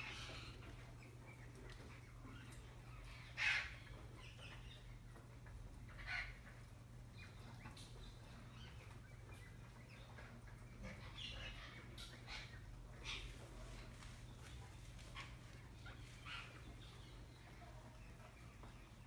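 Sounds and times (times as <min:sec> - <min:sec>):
parrots calling: 0:00.0 - 0:18.8.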